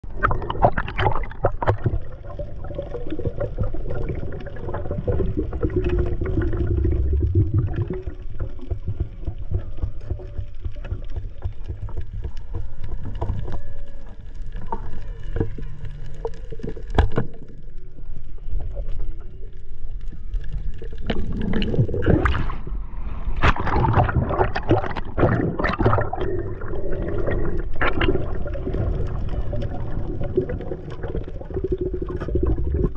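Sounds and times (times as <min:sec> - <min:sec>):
underwater clicks and crackles: 0:00.0 - 0:32.9
underwater rumble of moving water: 0:00.0 - 0:32.9.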